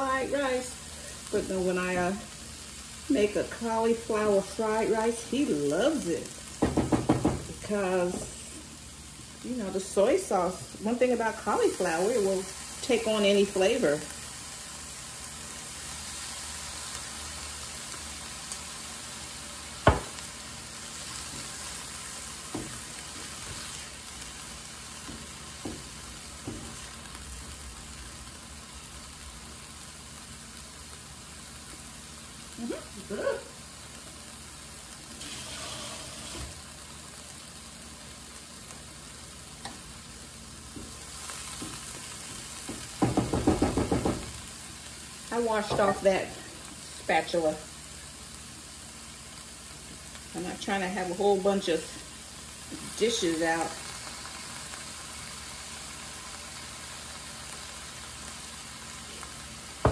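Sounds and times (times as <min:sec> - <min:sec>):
fried rice sizzling in a pan: 0:00.0 - 0:59.9.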